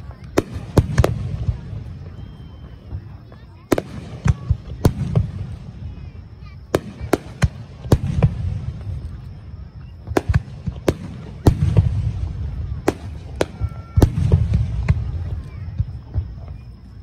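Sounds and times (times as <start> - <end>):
low rumble of booms: 0.0 - 17.0.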